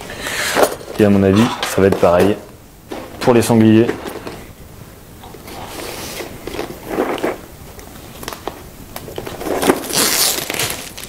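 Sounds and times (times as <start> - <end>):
plastic and cardboard packaging rustling: 0.3 - 4.5, 5.3 - 11.0.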